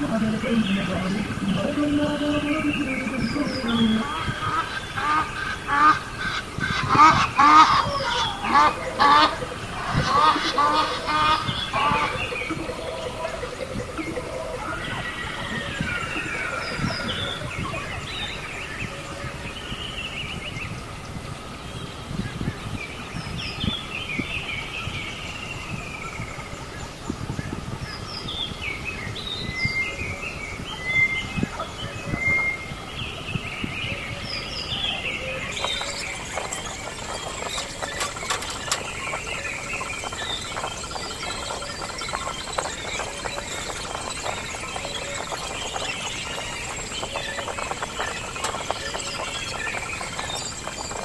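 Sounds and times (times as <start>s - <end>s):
birds chirping and twittering: 0.0s - 51.0s.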